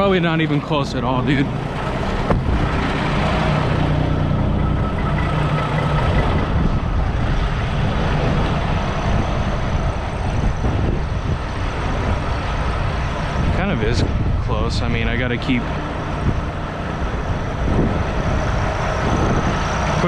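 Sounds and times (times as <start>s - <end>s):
diesel engine running at low revs: 0.0s - 20.0s.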